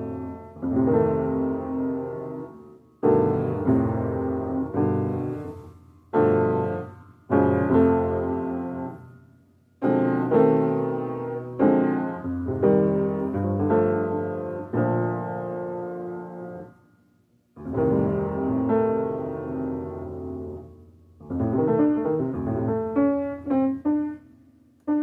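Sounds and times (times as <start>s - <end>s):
piano playing slow chords: 0.0s - 16.8s, 17.6s - 25.0s.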